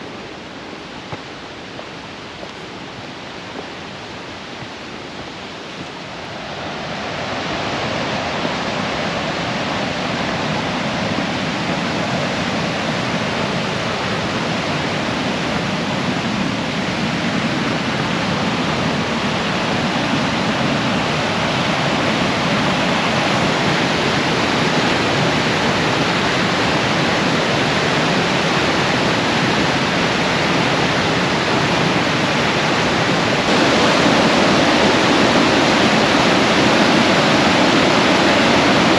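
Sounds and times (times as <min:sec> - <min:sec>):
river rapids rushing over rocks: 0:00.0 - 0:38.9.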